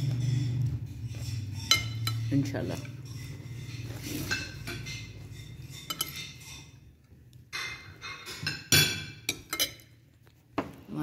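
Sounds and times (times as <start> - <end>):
spoons clinking on china plates: 0.0 - 10.0.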